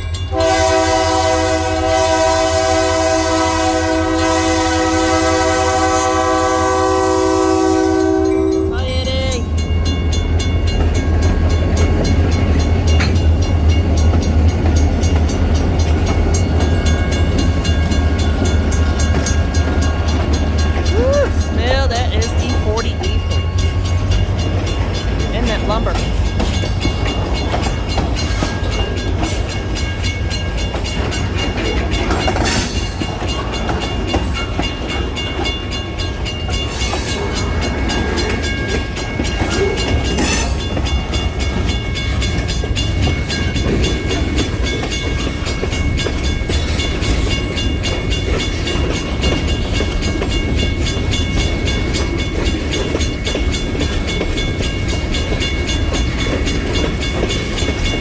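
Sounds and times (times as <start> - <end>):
freight cars rumbling on rails: 0.0 - 58.0.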